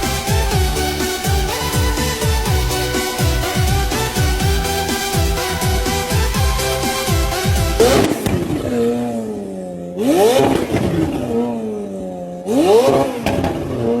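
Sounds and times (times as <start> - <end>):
sports car engine revving: 0.0 - 9.3, 10.0 - 11.8, 12.4 - 14.0.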